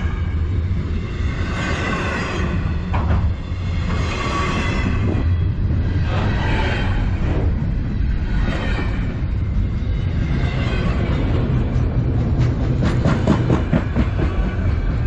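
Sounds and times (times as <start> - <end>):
freight cars rumbling on rails: 0.0 - 15.0
rail car clatter: 0.0 - 15.0.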